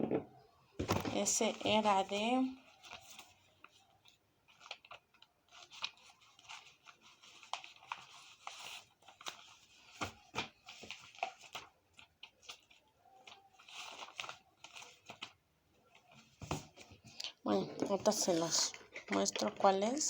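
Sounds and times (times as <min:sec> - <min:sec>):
packaging rustling and crinkling: 0:00.8 - 0:20.0.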